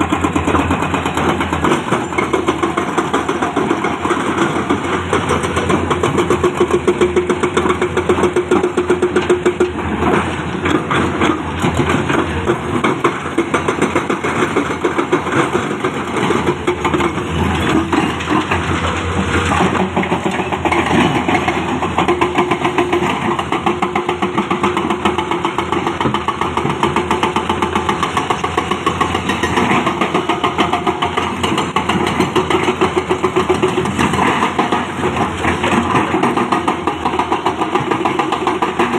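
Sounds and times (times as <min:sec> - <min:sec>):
diesel engines pulsing: 0:00.0 - 0:38.9.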